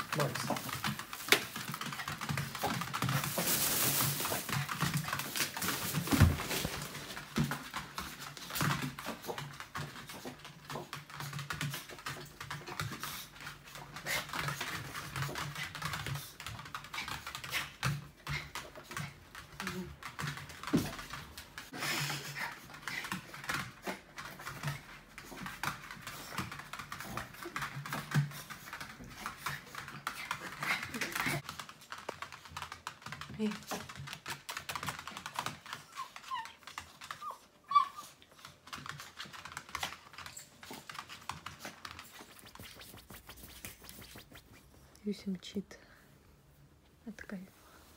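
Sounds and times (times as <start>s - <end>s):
dog claws skittering on floor: 0.0s - 45.0s.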